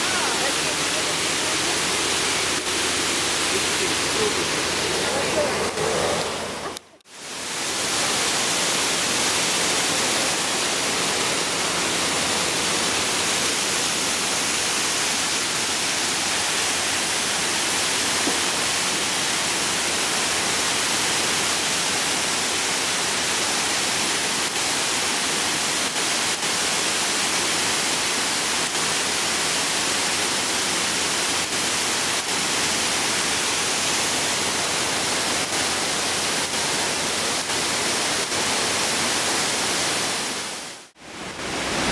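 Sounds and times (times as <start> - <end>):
water rushing and splashing: 0.0 - 41.9.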